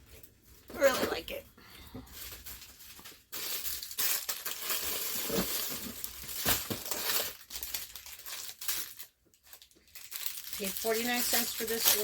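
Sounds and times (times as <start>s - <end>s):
plastic packaging crinkling: 2.0s - 12.0s.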